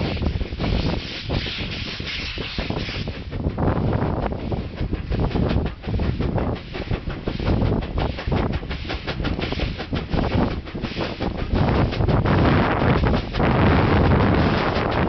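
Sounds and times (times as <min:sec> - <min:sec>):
steam locomotive exhaust chuffing: 0:00.0 - 0:15.0
wind on microphone: 0:00.0 - 0:15.0.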